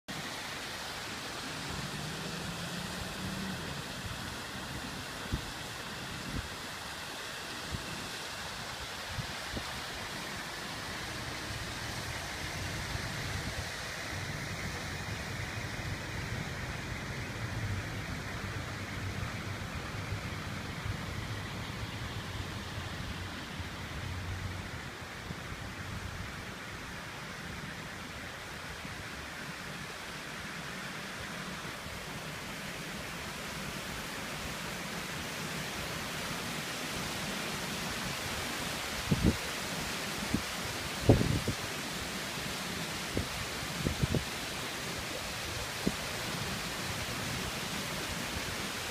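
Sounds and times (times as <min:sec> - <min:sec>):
fountain water splashing: 0:00.1 - 0:48.9.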